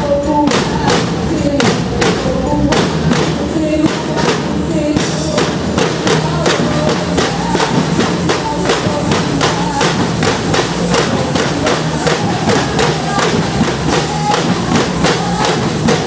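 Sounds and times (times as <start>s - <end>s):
drums steady beat: 0.0s - 16.0s
pitched percussion melody: 0.0s - 16.0s.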